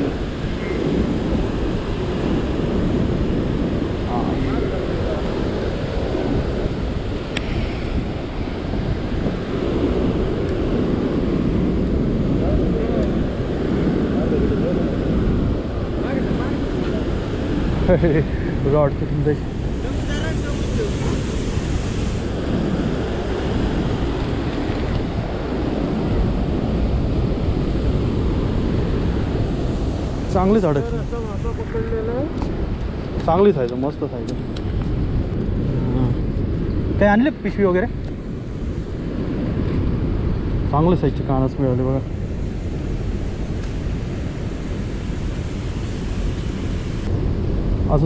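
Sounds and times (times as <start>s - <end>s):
churning water rushing: 0.0s - 48.0s
wind buffeting microphone: 0.0s - 48.0s.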